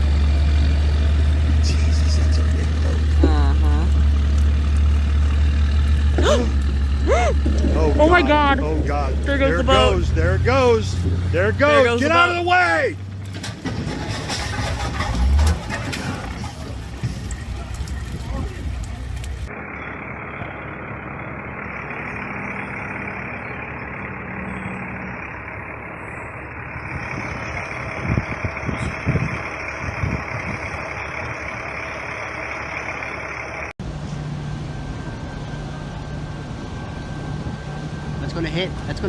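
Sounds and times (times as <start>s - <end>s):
engine hum: 0.0s - 39.0s
engine running: 0.0s - 39.0s.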